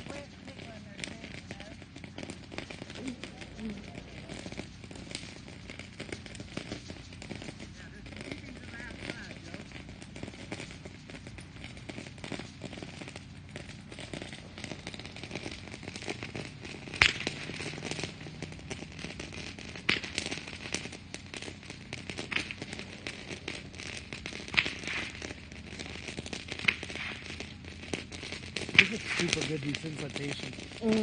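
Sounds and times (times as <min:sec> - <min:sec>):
fireworks crackling: 0:00.0 - 0:31.0
sharp pops: 0:00.0 - 0:31.0.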